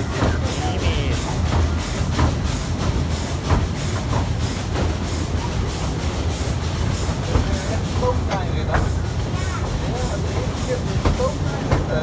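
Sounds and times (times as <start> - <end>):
rhythmic steam hissing: 0.0 - 12.0
steam train rumbling: 0.0 - 12.0.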